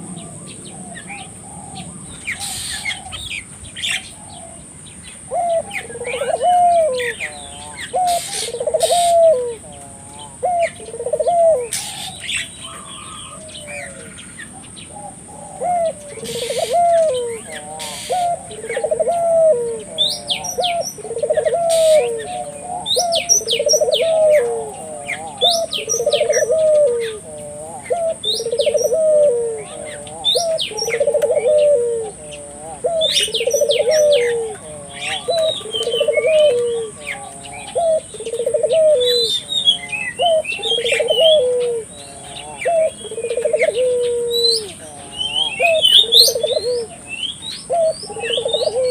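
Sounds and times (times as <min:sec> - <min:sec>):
dove cooing: 0:00.0 - 0:48.9
small birds chirping: 0:00.0 - 0:48.9.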